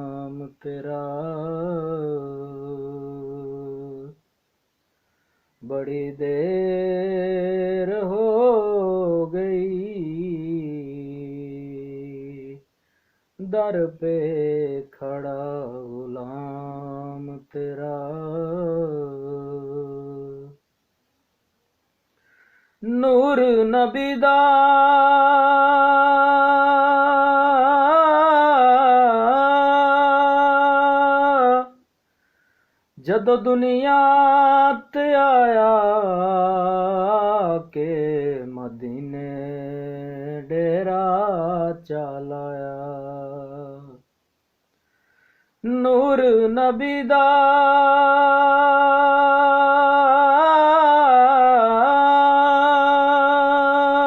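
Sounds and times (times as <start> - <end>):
person singing unaccompanied: 0.0 - 4.3, 5.6 - 12.8, 13.4 - 20.8, 22.2 - 32.0, 32.9 - 44.2, 45.6 - 54.0.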